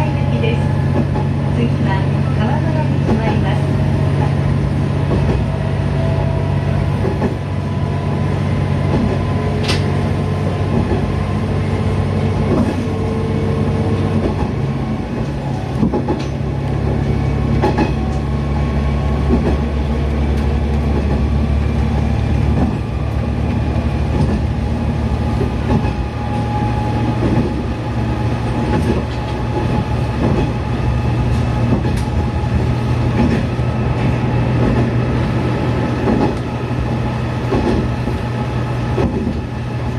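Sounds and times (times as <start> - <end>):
diesel railcar engine drone: 0.0 - 39.9.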